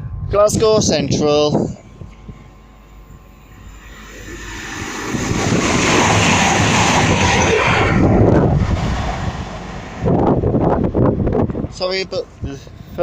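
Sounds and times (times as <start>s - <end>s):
diesel train passing at speed: 1.5s - 13.0s.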